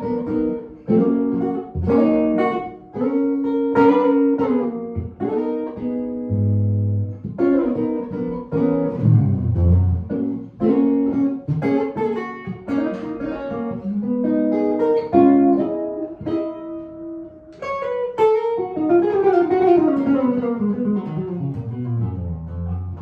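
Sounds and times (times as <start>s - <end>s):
electric guitar notes and chords: 0.0s - 23.0s.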